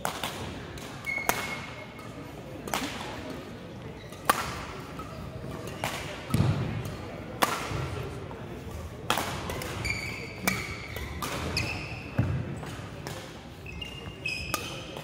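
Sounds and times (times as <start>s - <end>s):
rackets hitting shuttlecock: 0.0s - 3.5s, 4.1s - 15.0s.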